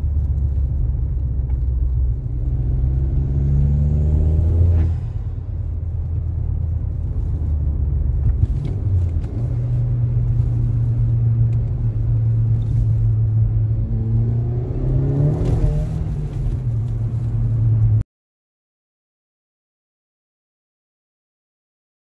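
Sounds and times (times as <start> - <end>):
car engine drone from inside cabin: 0.0 - 18.0.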